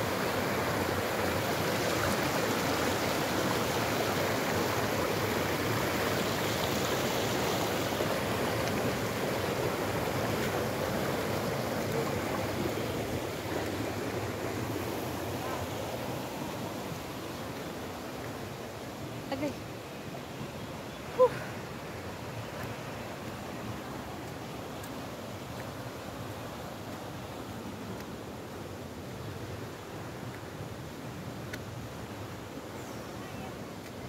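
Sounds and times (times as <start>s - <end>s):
stream running over rocks: 0.0s - 34.0s.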